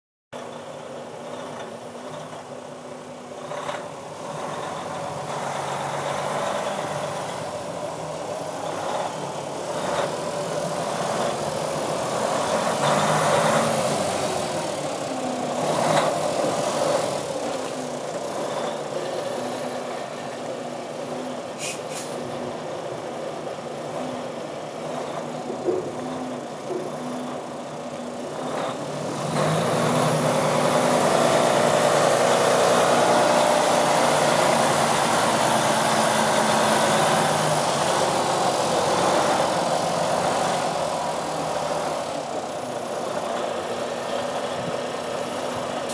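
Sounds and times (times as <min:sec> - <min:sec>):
diesel engine idling: 0:00.4 - 0:45.9.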